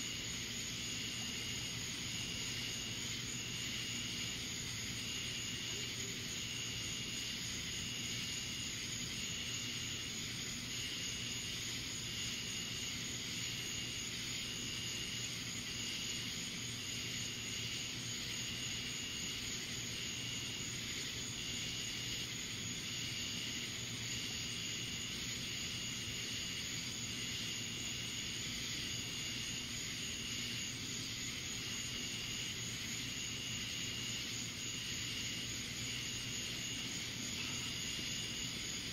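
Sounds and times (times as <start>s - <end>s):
insects hissing: 0.0s - 38.9s.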